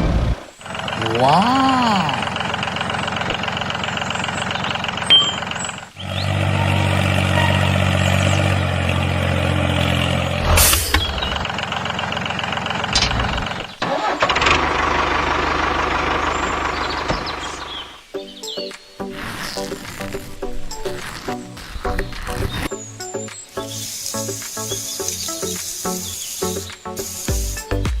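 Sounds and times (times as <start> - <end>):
vehicle engine running: 0.0 - 18.1, 23.6 - 28.0.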